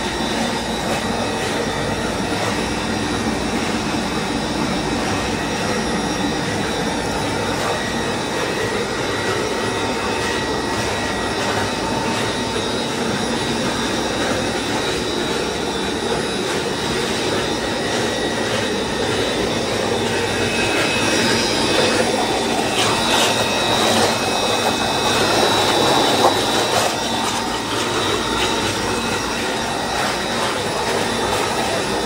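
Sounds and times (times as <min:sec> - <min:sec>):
electric motor whine: 0:00.0 - 0:32.0
mixer rushing noise: 0:00.0 - 0:32.0.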